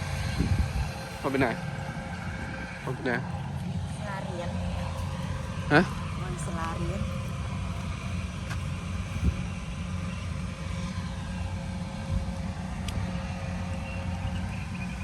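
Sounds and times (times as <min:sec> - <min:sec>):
engine running low drone: 0:00.0 - 0:15.0
faint steady hum: 0:00.0 - 0:15.0.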